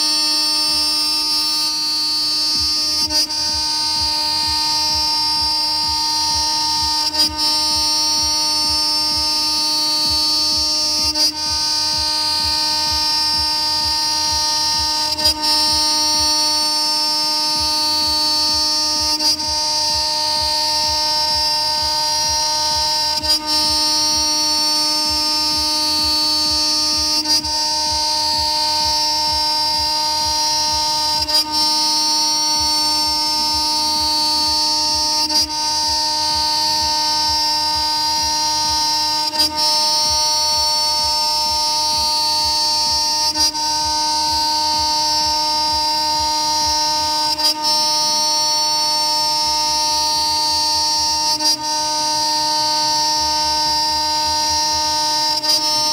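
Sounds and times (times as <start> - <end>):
spindle milling aluminum whine: 0.0 - 55.9.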